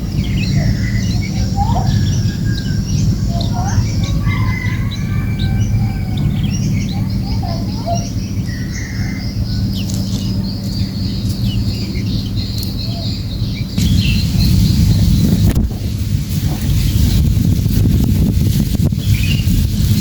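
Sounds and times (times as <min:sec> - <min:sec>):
low wind-like rumble: 0:00.0 - 0:20.0
small birds chirping: 0:00.0 - 0:20.0.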